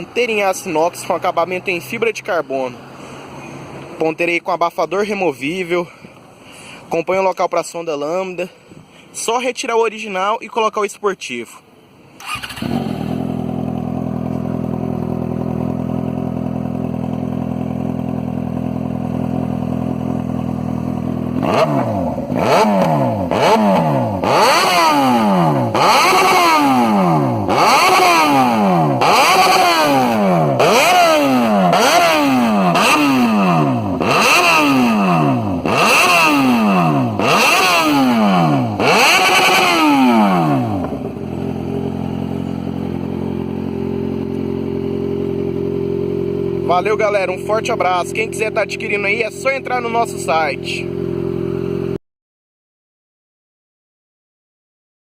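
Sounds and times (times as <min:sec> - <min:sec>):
motorcycle engine idling and revving: 0:00.0 - 0:10.5, 0:11.7 - 0:52.0.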